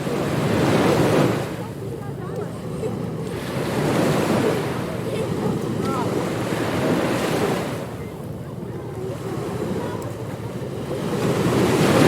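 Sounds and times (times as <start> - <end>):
ocean surf breaking on a beach: 0.0 - 12.0.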